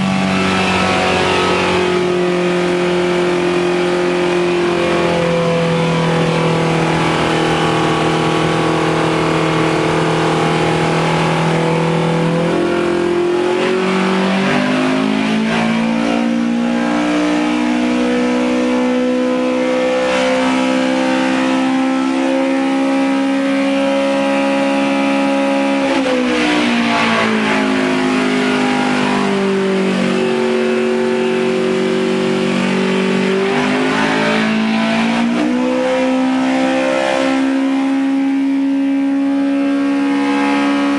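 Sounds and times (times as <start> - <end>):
rally engine running on a dyno: 0.0 - 40.9.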